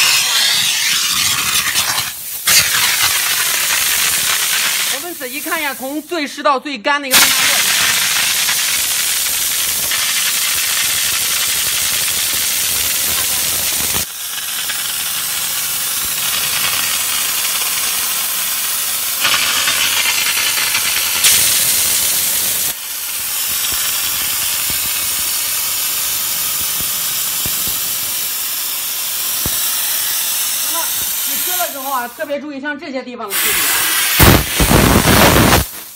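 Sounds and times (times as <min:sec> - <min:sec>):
steam gun hissing: 0:00.0 - 0:06.2, 0:07.1 - 0:32.4, 0:33.3 - 0:35.9.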